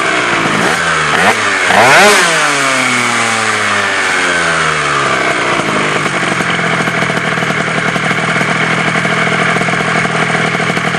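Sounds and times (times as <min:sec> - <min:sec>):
scooter engine idling: 0:00.0 - 0:10.9.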